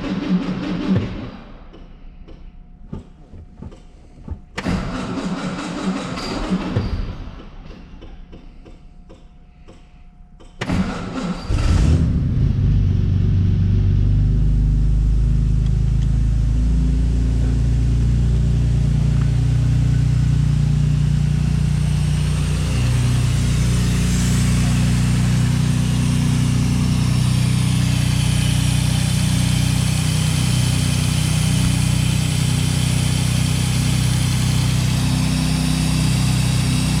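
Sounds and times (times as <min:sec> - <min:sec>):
car engine starting and running: 0:00.0 - 0:01.8, 0:02.6 - 0:08.4, 0:10.5 - 0:37.0.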